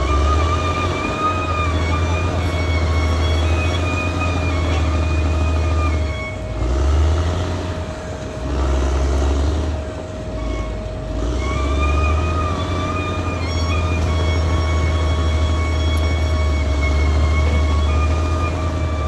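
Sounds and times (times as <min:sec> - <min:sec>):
bulldozer diesel engine rumble: 0:00.0 - 0:19.0
high squealing tone: 0:00.0 - 0:19.0
steady whine: 0:00.0 - 0:19.0.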